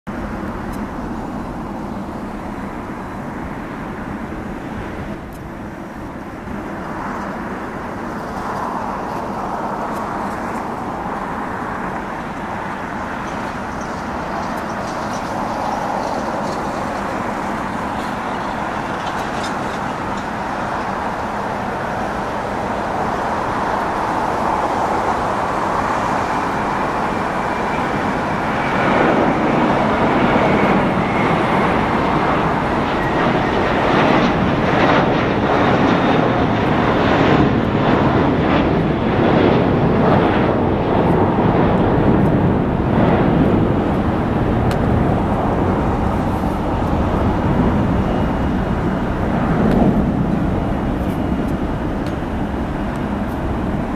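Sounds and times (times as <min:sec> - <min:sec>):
jet engines roaring at takeoff: 0:00.1 - 0:53.9.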